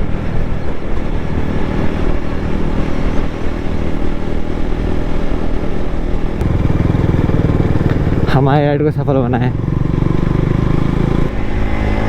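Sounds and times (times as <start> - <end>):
wind rushing over microphone: 0.0 - 12.0
motorcycle engine running: 0.2 - 12.0.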